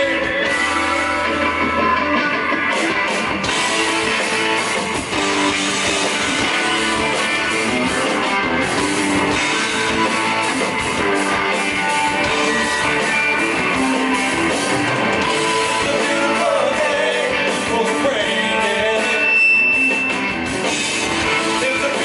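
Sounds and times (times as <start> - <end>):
blues-rock band playing: 0.0 - 22.0
electric guitar: 0.0 - 22.0.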